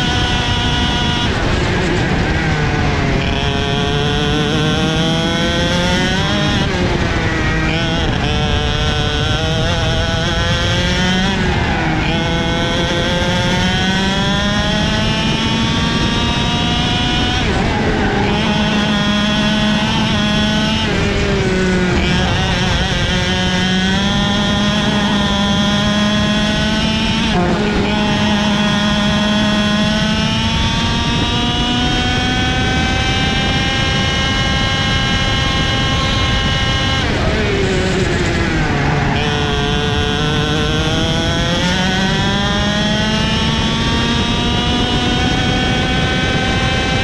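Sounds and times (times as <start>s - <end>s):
kart engine at full throttle: 0.0s - 47.0s.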